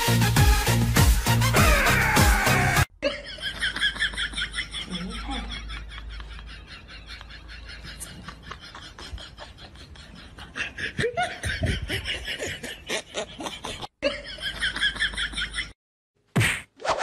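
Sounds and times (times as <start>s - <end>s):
person laughing loudly: 1.5s - 15.7s.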